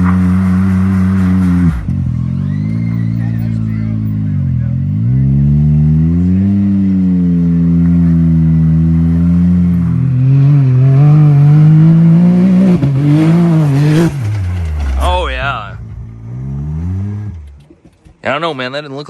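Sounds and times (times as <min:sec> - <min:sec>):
engine revving under load: 0:00.0 - 0:17.9.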